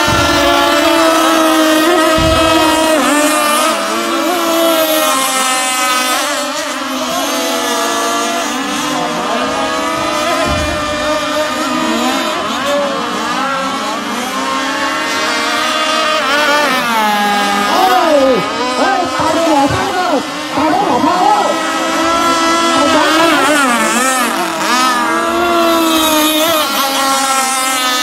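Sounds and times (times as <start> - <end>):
model boat engines racing: 0.0 - 28.0.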